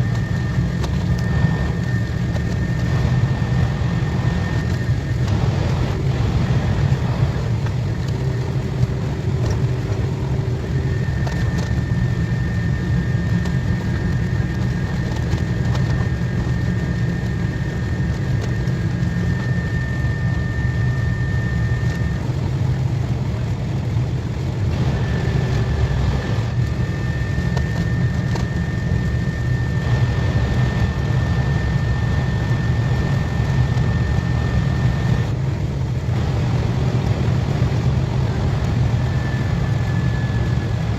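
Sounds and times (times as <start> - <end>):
high steady whine: 0.0 - 40.9
high-speed train rumble: 0.0 - 40.9.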